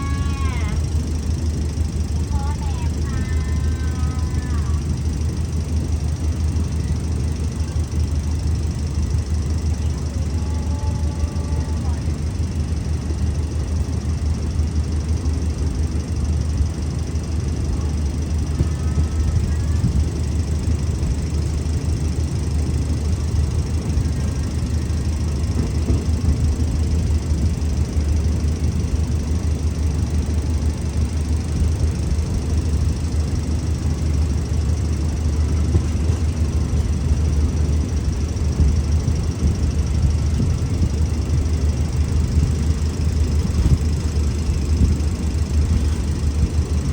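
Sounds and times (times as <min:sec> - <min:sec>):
diesel locomotive engine idling: 0:00.0 - 0:46.9.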